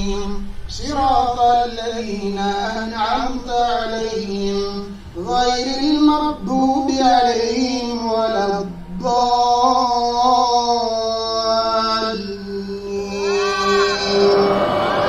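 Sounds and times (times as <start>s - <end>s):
man chanting recitation: 0.0s - 14.6s.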